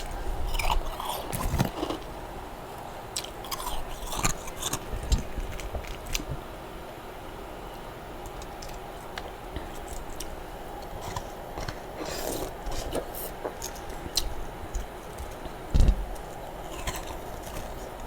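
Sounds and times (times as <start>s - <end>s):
chewing and crunching frost: 0.0s - 2.2s, 3.1s - 6.3s, 8.3s - 18.0s.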